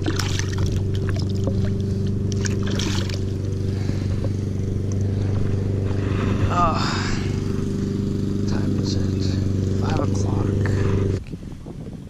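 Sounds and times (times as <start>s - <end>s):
motor humming: 0.0s - 11.3s.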